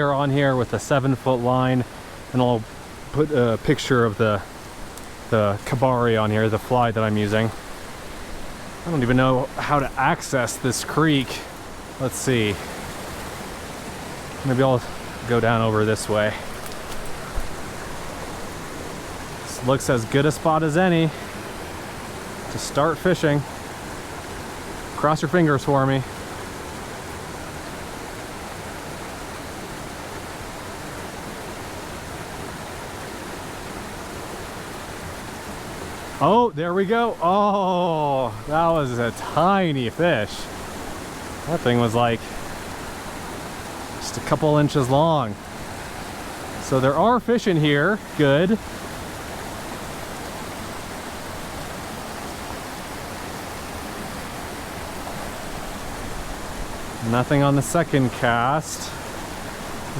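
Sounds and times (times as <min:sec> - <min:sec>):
creek rushing over boulders: 0:00.0 - 0:59.9.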